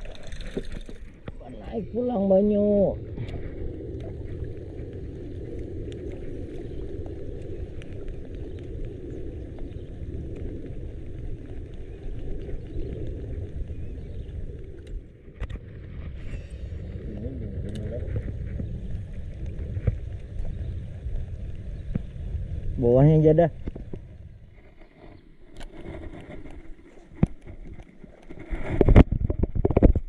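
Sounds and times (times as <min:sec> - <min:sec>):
water noise: 0:00.0 - 0:30.0
wind noise: 0:00.0 - 0:30.0.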